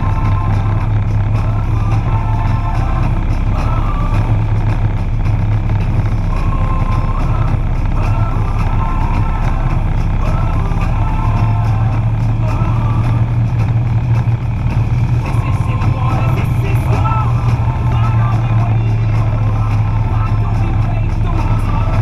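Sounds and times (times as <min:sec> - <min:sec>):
motorcycle engine running: 0:00.0 - 0:22.0
music with wandering melody: 0:00.0 - 0:22.0
wind rush: 0:00.0 - 0:22.0.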